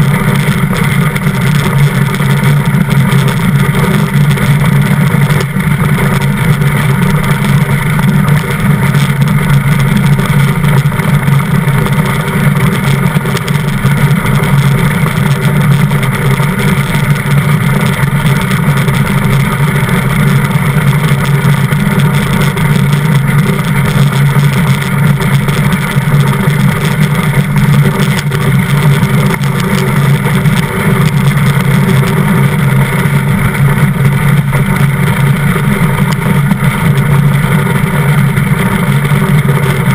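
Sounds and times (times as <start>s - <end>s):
steel runners rumbling on ice: 0.0s - 39.9s.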